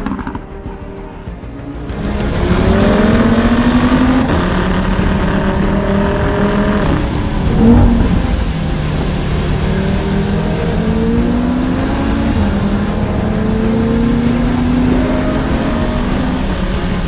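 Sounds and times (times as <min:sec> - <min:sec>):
car engine accelerating hard: 0:01.6 - 0:17.0.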